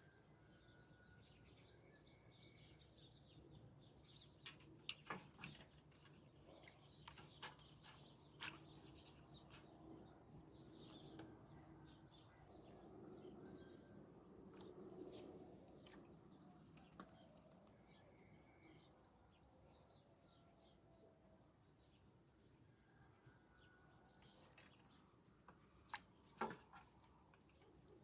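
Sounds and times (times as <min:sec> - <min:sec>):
faint birdsong: 0:00.0 - 0:28.0.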